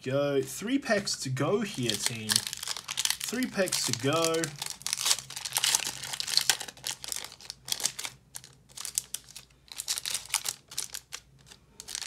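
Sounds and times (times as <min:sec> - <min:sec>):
foil wrapper crinkling and tearing: 0:01.7 - 0:12.0.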